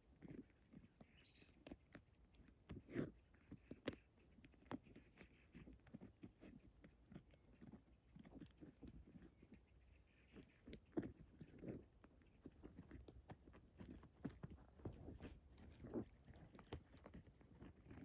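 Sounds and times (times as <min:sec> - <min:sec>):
rodent gnawing and scrabbling: 0:00.0 - 0:18.0.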